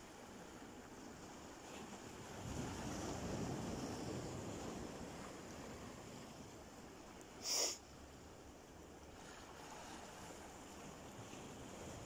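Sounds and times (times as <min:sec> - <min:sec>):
sea surf: 0:00.0 - 0:12.0
wind: 0:00.0 - 0:12.0.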